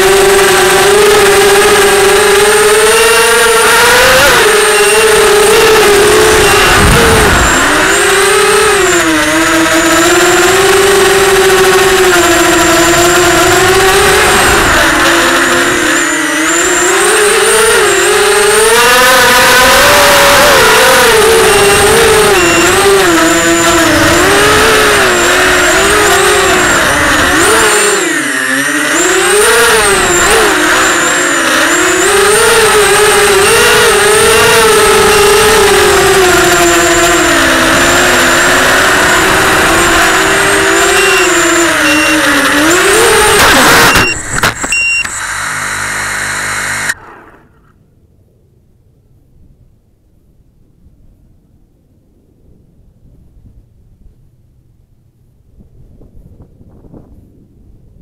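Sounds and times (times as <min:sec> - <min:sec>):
drone propellers buzzing: 0:00.0 - 0:48.0.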